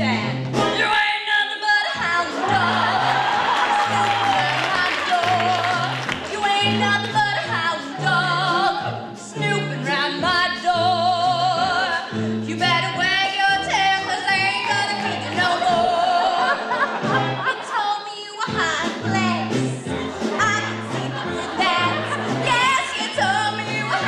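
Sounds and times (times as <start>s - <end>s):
live band playing: 0.0s - 1.2s, 2.0s - 24.0s.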